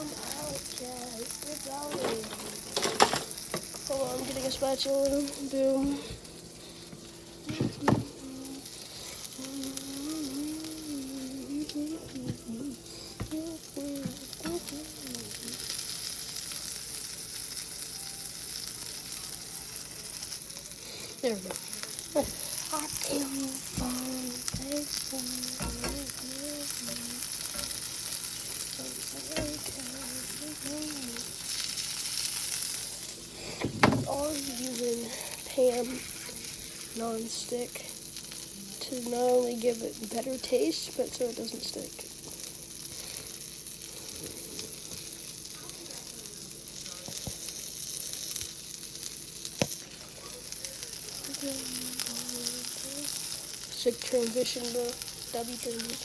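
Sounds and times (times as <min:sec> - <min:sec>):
sausage sizzling in a pan: 0:00.0 - 0:56.0.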